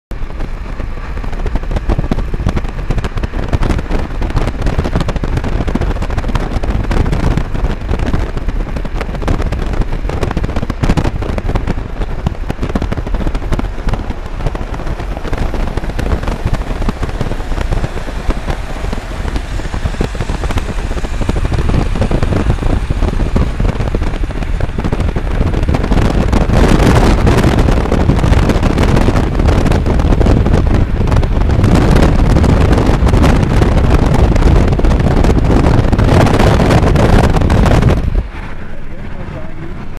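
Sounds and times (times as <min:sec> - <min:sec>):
road and wind noise in car: 0:00.0 - 0:39.9
wind buffeting microphone: 0:00.1 - 0:39.9.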